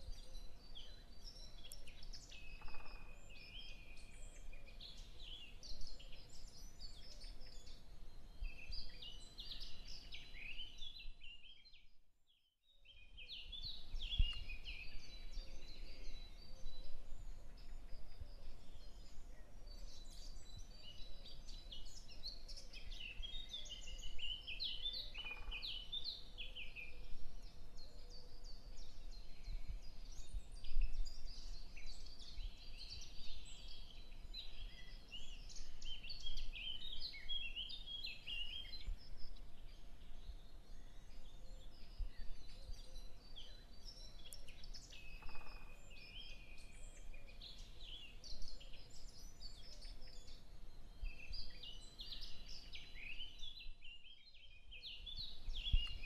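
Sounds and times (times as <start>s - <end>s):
small birds chirping: 0.0s - 12.0s, 12.7s - 56.0s.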